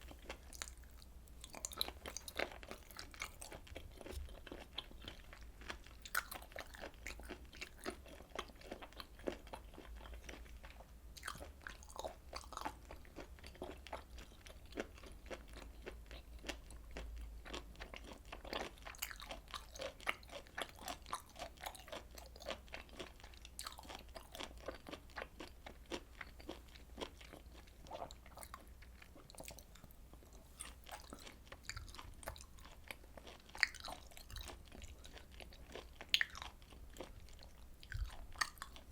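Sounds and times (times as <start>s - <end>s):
low steady hum: 0.0s - 38.9s
mouth chewing clicks and smacks: 0.0s - 38.9s.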